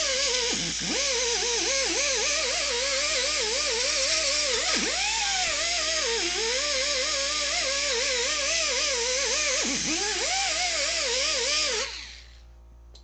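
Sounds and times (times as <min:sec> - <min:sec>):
power tool whining: 0:00.0 - 0:12.5.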